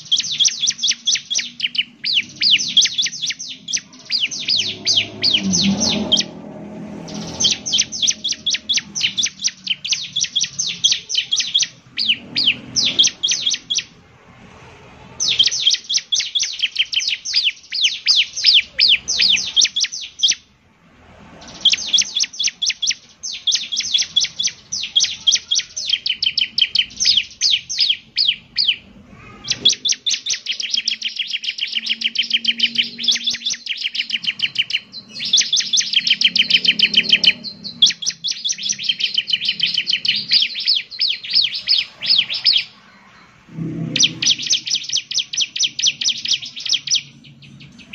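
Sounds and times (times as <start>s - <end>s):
bird singing rapid falling notes: 0.0s - 14.0s, 15.2s - 20.6s, 21.4s - 47.9s.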